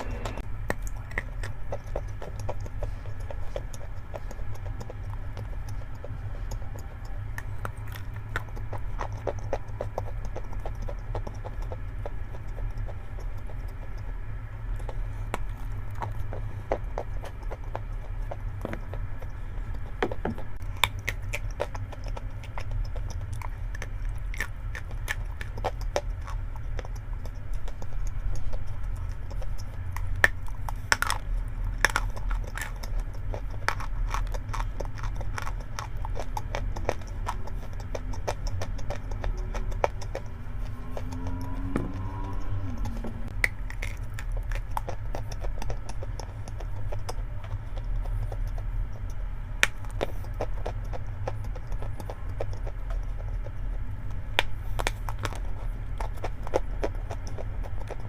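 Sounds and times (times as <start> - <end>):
chalk being chewed: 0.0 - 58.0
steady low hum: 0.0 - 58.0.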